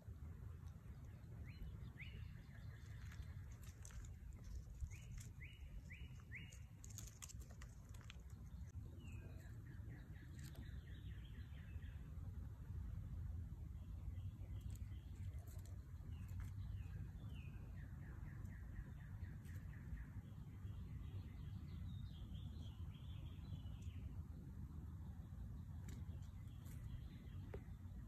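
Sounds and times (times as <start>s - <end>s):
low steady rumble: 0.0s - 28.0s
songbirds calling: 0.5s - 12.2s, 13.7s - 28.0s.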